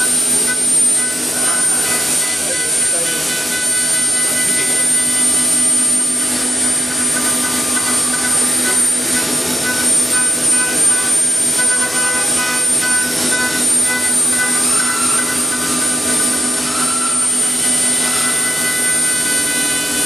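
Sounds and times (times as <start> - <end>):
mid-pitched pulsing tone: 0.0 - 20.0
woodworking machine humming: 0.0 - 20.0.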